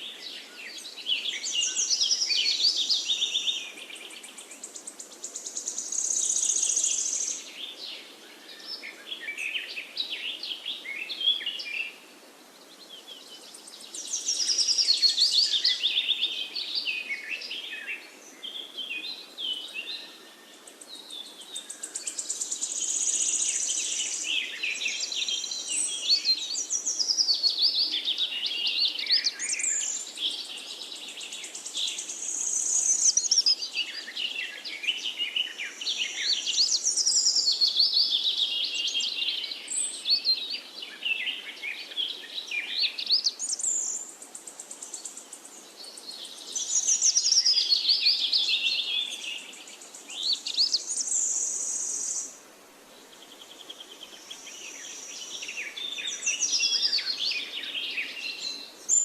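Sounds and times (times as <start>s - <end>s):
birds singing and chirping: 0.0s - 52.4s, 53.0s - 59.0s
faint steady background hiss: 0.0s - 59.0s.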